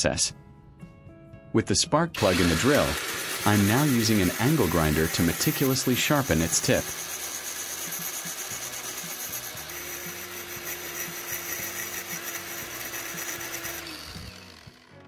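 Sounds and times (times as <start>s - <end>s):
angle grinder grinding metal: 2.2s - 15.0s.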